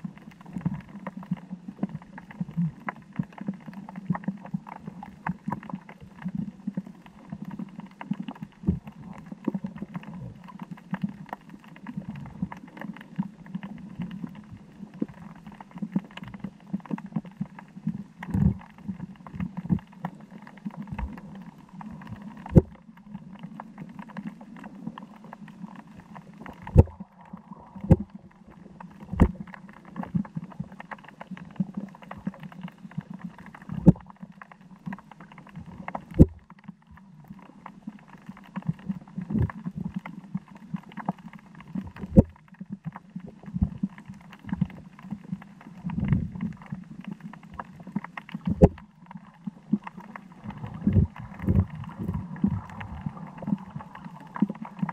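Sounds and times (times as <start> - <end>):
low underwater rumble: 0.0 - 54.9
sharp underwater cracks and knocks: 7.3 - 17.6, 18.2 - 25.4, 26.3 - 54.9.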